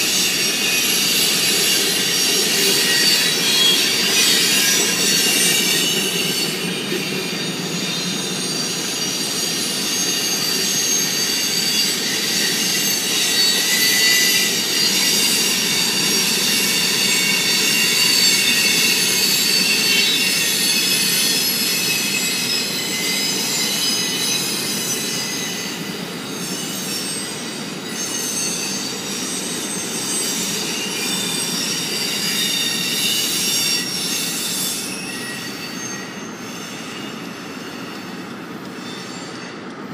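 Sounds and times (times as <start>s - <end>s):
freight cars rolling on rails: 0.0s - 39.9s
train wheels squealing: 0.0s - 39.9s.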